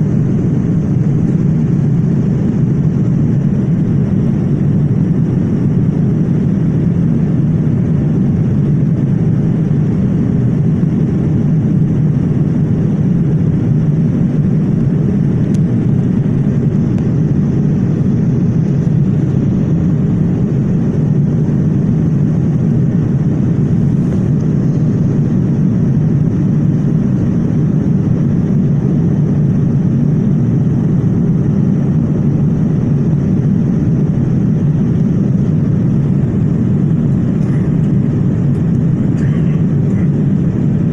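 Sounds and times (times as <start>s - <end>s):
aircraft engine and airflow roar: 0.0s - 40.9s.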